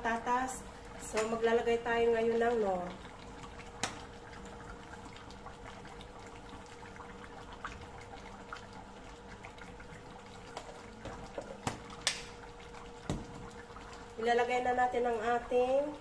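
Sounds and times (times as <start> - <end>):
faint steady hum: 0.0 - 16.0
stew bubbling in a pan: 0.0 - 16.0.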